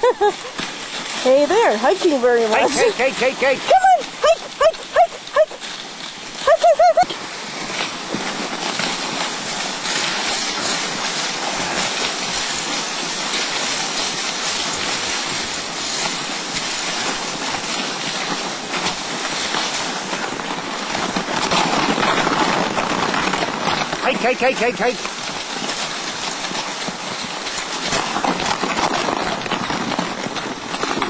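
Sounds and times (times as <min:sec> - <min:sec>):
sled runners sliding over snow: 0:00.0 - 0:31.0.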